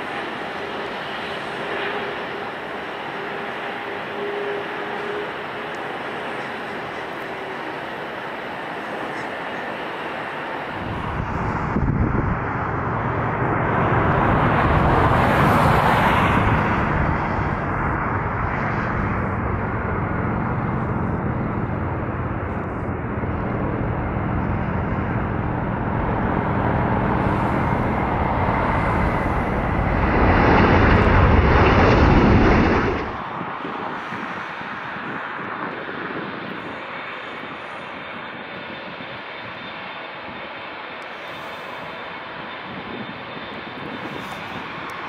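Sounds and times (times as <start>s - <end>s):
jet engines roaring with whine: 0.0s - 45.0s.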